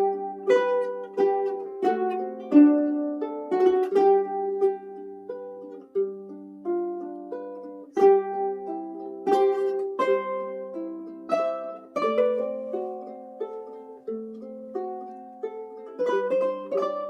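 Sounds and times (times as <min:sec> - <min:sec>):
ukulele playing: 0:00.0 - 0:17.0.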